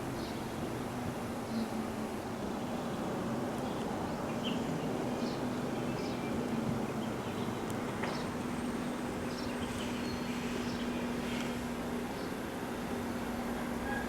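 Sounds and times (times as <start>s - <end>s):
constant low hum: 0.0s - 14.0s
traffic rumble: 0.0s - 14.0s.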